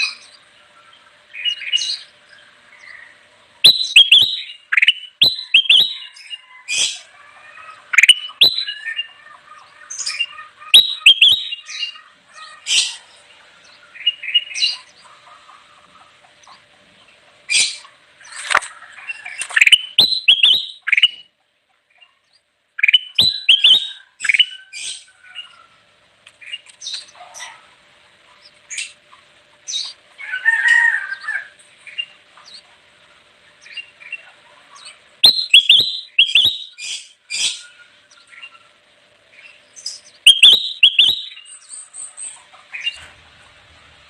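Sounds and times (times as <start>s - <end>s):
bird chirping and warbling: 0.0s - 21.3s, 21.9s - 25.8s, 29.6s - 32.7s, 33.5s - 43.1s.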